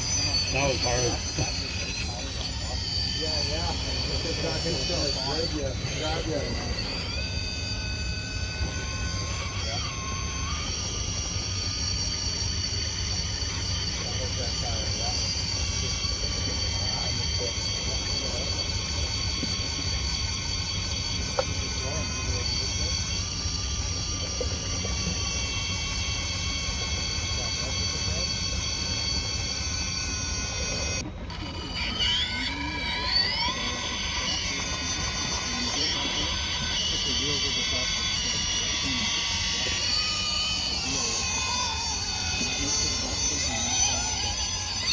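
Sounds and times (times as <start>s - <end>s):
electric motor whining: 0.0s - 44.9s.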